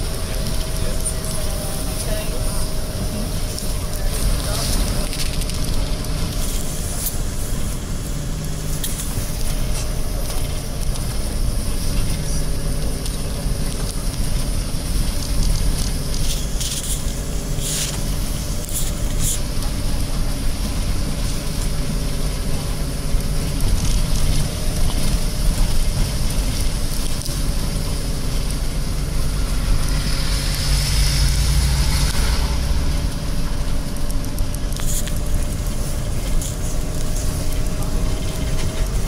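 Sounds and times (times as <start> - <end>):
bus engine rumble: 0.0 - 39.0
rush of noise: 0.0 - 39.0
tyre road noise: 0.0 - 39.0.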